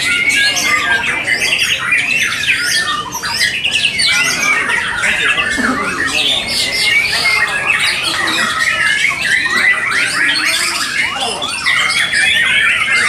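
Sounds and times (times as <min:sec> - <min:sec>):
chorus of songbirds singing: 0:00.0 - 0:13.0.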